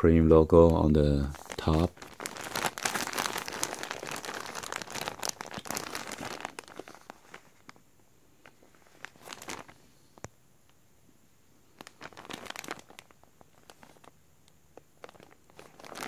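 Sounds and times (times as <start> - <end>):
plastic wrapping crinkling: 0.7 - 7.8, 8.4 - 10.3, 11.7 - 16.0.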